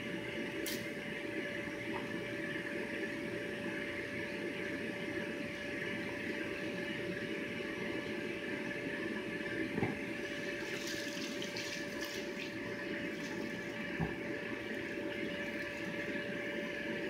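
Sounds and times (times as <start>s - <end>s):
electric blower fan humming: 0.0s - 17.0s.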